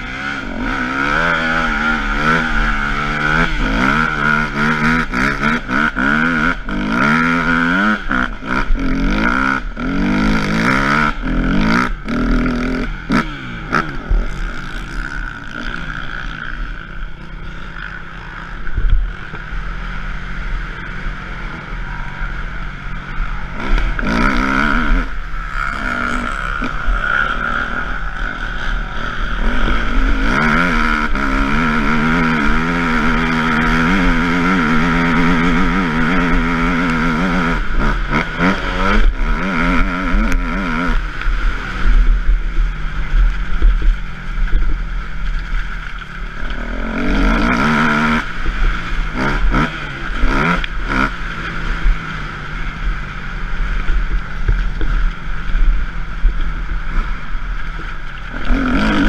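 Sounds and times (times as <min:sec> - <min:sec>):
low rumble: 0:00.0 - 0:59.0
motocross bike engine revving: 0:00.0 - 0:59.0.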